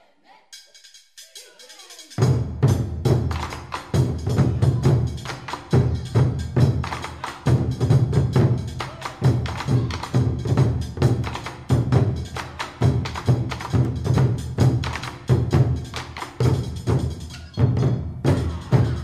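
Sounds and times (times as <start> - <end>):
wooden percussive strikes: 0.5 - 19.0
low drum beat: 1.2 - 19.0.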